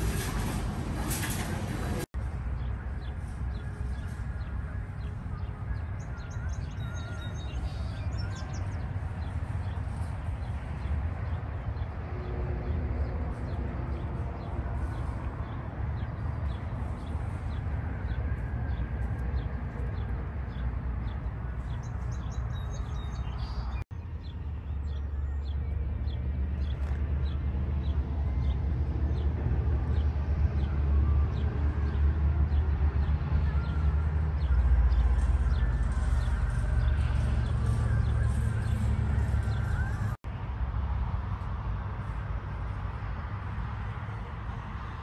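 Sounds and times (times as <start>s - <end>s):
birds chirping: 1.2s - 40.2s.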